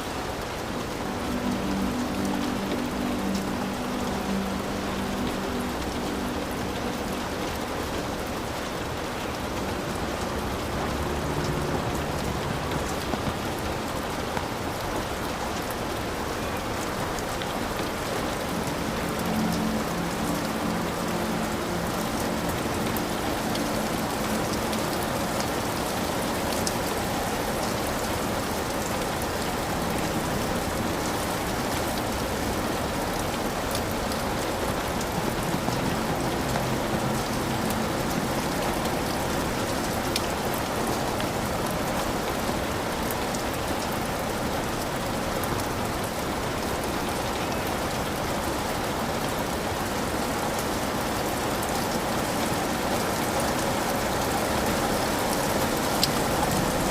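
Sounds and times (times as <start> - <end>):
heavy rain on a roof: 0.0 - 56.9.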